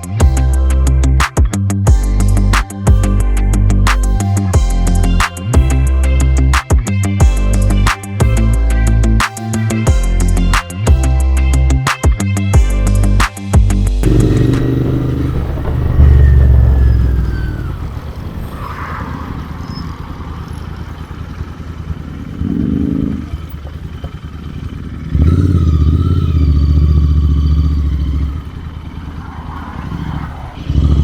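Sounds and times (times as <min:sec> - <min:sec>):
motorcycle engine running: 0:00.0 - 0:18.5, 0:19.1 - 0:31.0.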